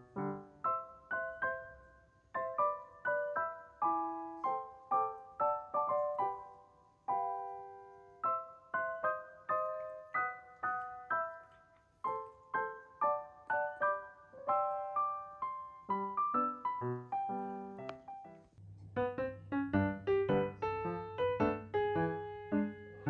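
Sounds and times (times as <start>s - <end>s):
gentle solo piano melody: 0.0s - 23.0s.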